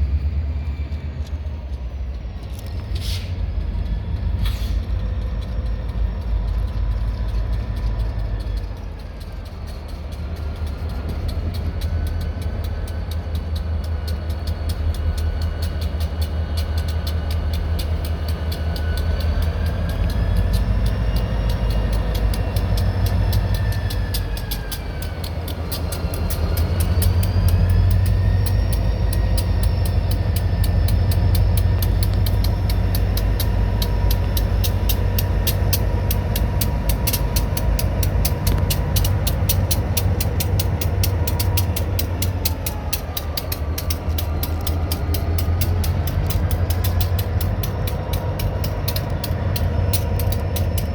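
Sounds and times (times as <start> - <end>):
diesel locomotive engine rumble: 0.0 - 50.9
high turbo whine: 0.0 - 50.9.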